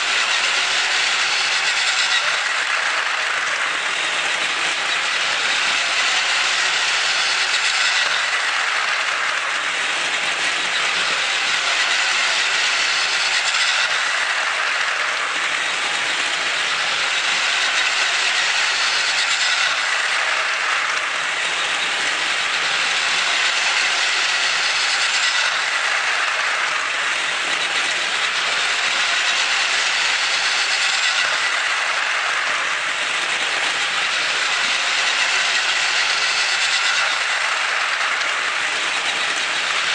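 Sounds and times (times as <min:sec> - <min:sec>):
toy train motor whir: 0:00.0 - 0:39.9
wheels rattling on track joints: 0:00.0 - 0:39.9.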